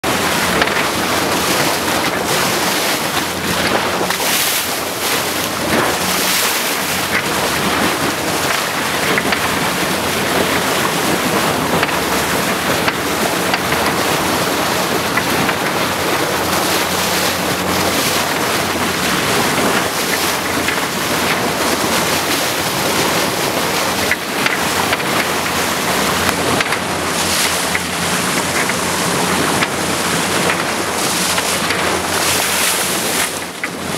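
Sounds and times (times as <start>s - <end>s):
low engine hum: 0.0s - 33.9s
water rushing past hull: 0.0s - 33.9s
wind buffeting microphone: 0.0s - 33.9s.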